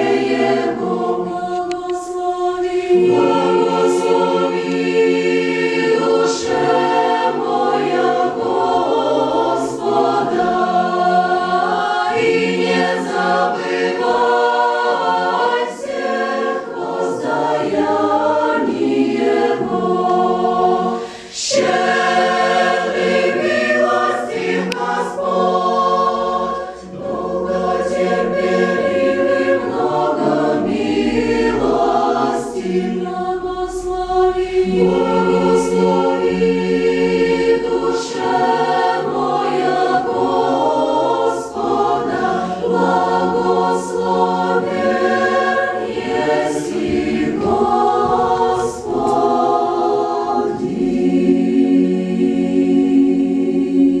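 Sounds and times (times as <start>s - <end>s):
women's choir singing in harmony: 0.0s - 54.0s.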